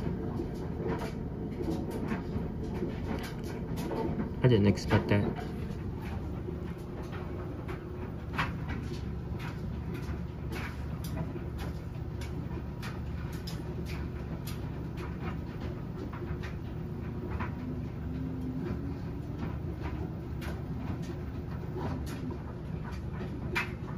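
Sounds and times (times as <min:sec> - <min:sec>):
washing machine humming: 0:00.0 - 0:23.9.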